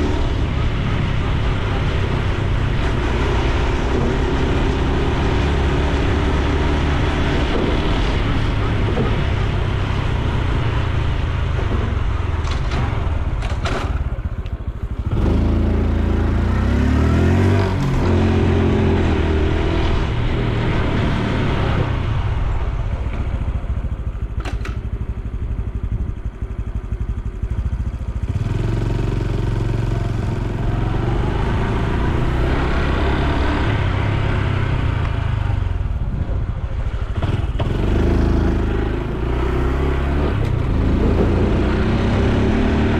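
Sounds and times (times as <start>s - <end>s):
motorcycle engine while riding: 0.0s - 42.9s
wind and road noise: 0.0s - 42.9s.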